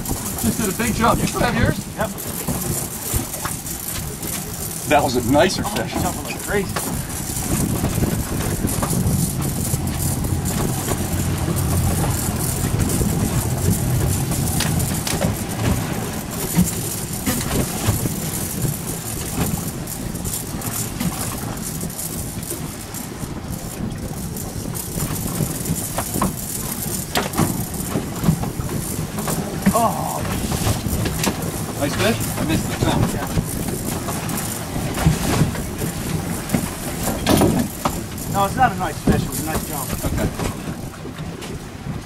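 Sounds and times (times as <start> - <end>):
boat engine running: 0.0 - 42.0
water noise: 0.0 - 42.0
wind: 0.0 - 42.0.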